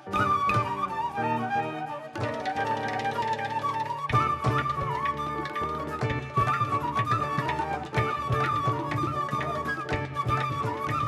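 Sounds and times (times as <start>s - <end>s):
wind instrument melody: 0.0s - 11.0s.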